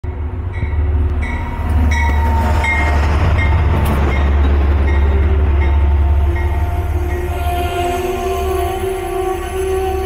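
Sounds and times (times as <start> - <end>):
diesel locomotive rumble: 0.0 - 10.0.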